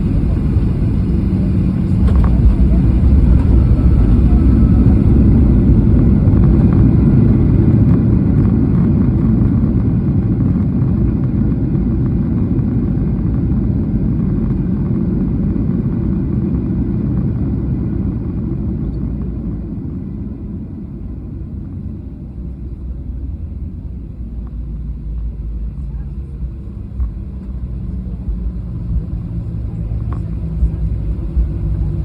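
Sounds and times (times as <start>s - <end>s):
engines and wheels rumbling: 0.0s - 32.0s
jet cabin rumble on runway: 0.0s - 32.0s.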